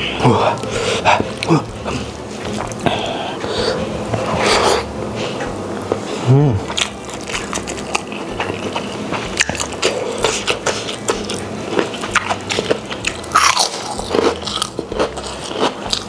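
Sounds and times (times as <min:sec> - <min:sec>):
person chewing and crunching: 0:00.0 - 0:04.9, 0:05.9 - 0:16.0.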